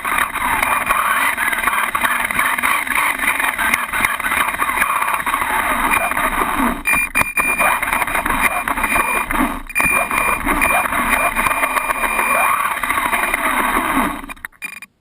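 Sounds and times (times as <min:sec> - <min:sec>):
rc car electric motor running: 0:00.0 - 0:14.9
tyre and chassis noise: 0:00.0 - 0:15.0.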